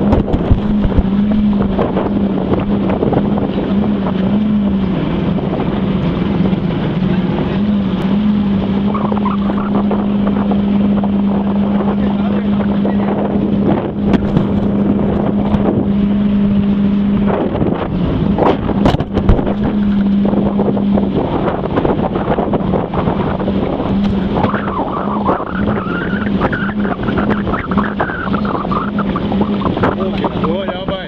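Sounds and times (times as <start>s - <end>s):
boat engine humming: 0.0s - 31.0s
rushing water noise: 0.0s - 31.0s.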